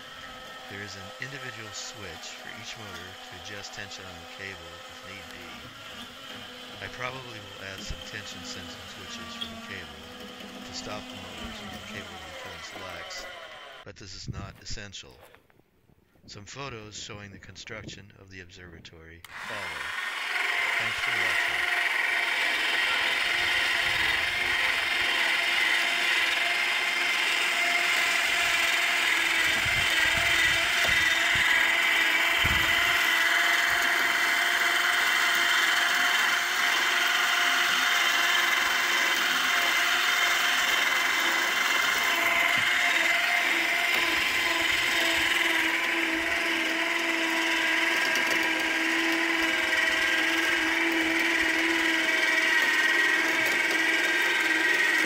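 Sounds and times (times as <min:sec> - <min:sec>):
electric winches whining: 0:00.0 - 0:13.9, 0:19.2 - 0:55.0.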